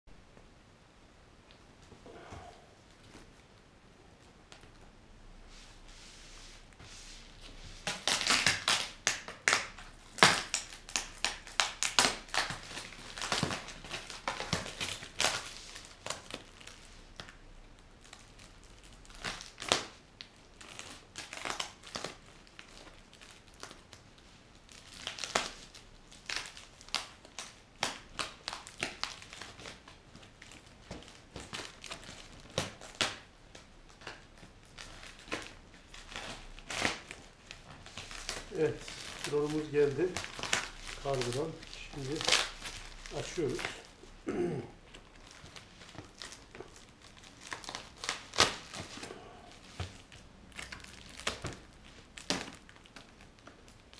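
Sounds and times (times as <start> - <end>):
plastic wrapping crinkling: 6.5 - 44.2, 44.8 - 53.9.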